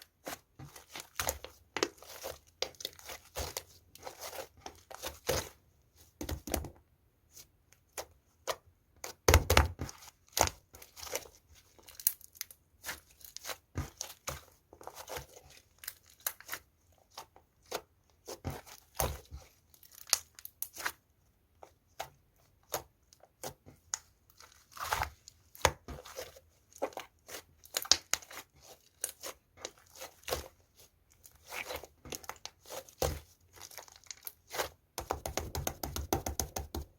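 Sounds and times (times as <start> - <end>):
slime kneaded with sticky pops: 0.0 - 36.9.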